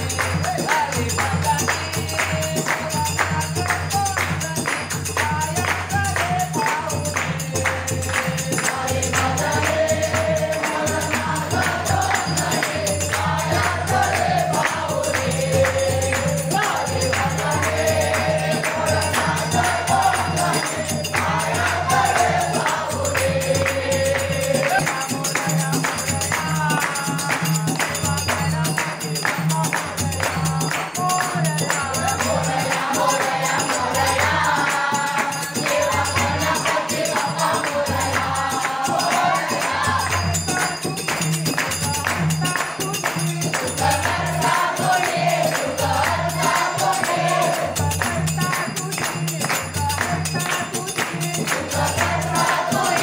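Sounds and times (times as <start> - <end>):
chorus singing devotional song: 0.0 - 53.0
hand-played barrel drum: 0.0 - 53.0
rhythmic hand-clapping: 0.0 - 53.0.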